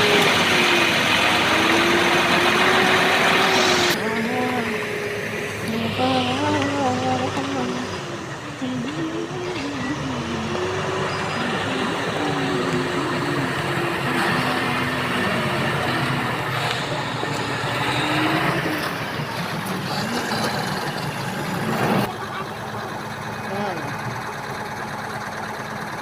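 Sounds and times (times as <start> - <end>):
diesel construction machinery running: 0.0 - 26.0.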